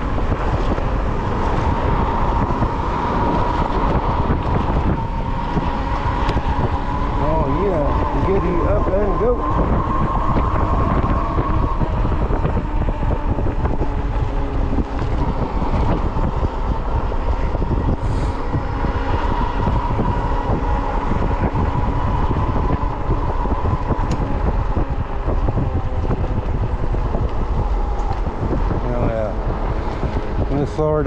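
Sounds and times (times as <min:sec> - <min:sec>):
electric bike drive whine: 0:00.0 - 0:31.0
wind rushing over microphone: 0:00.0 - 0:31.0.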